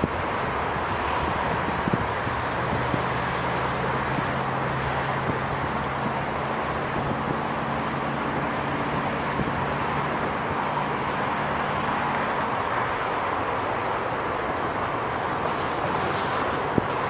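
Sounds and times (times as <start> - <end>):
freeway traffic hiss: 0.0 - 17.0
low engine hum: 0.0 - 17.0.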